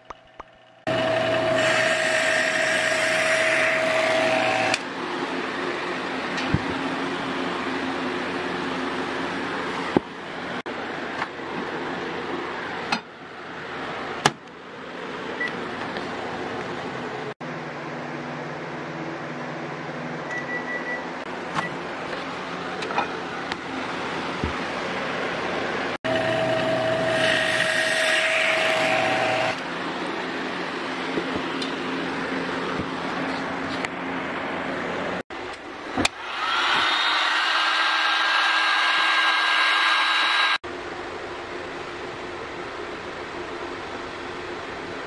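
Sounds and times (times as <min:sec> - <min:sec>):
microwave running hum: 0:00.0 - 0:45.0.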